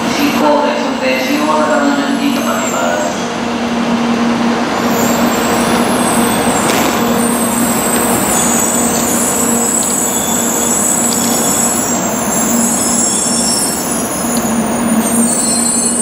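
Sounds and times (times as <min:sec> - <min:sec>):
train mechanical hum and hiss: 0:00.0 - 0:16.0.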